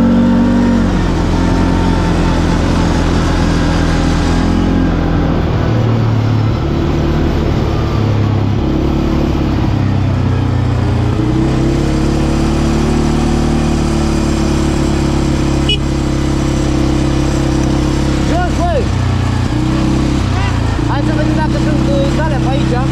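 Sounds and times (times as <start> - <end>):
quad bike engine running: 0.0 - 22.9.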